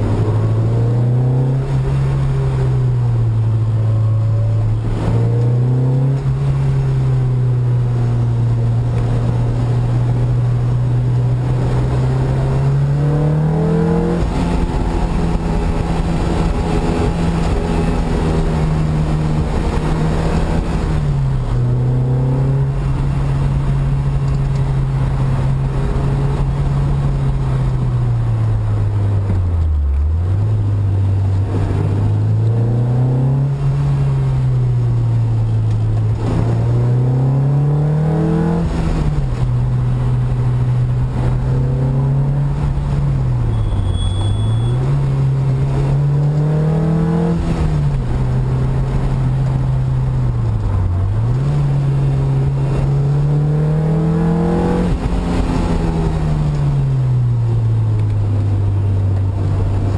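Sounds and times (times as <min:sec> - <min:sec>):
sports car engine revving: 0:00.0 - 0:59.9.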